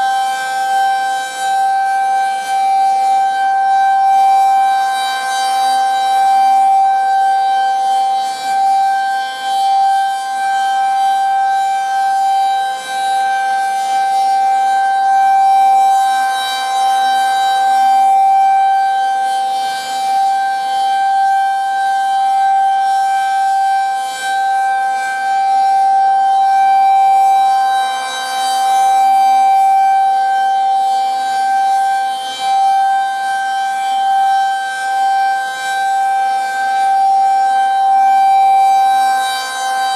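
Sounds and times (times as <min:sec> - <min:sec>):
rotating warning siren steady tone: 0:00.0 - 0:39.9.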